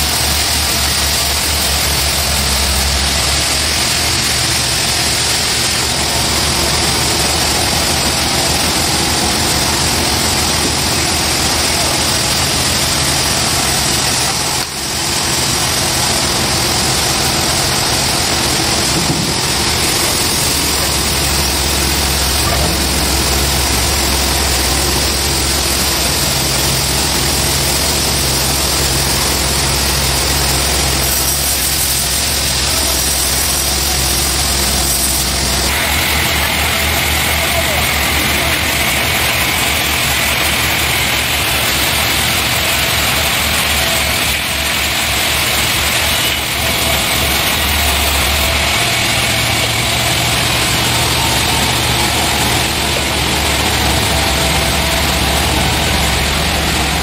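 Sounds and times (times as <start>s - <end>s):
band sawmill running: 0.0s - 57.0s.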